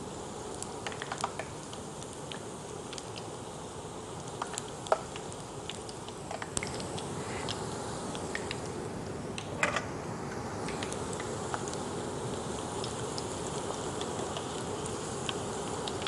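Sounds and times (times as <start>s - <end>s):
dough sizzling in hot oil: 0.0s - 16.0s
oil popping and crackling: 0.4s - 3.4s, 4.0s - 8.8s, 10.6s - 16.0s.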